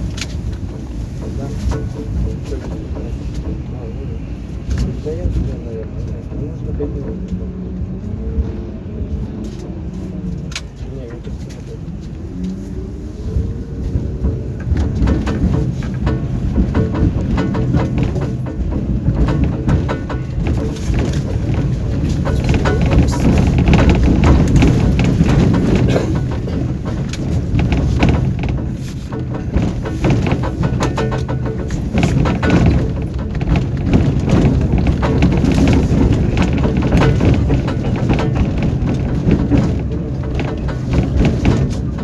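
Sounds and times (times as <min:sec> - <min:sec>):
wheels knocking over rails: 0:00.0 - 0:07.4, 0:09.4 - 0:42.0
tram running gear rumble: 0:00.0 - 0:42.0.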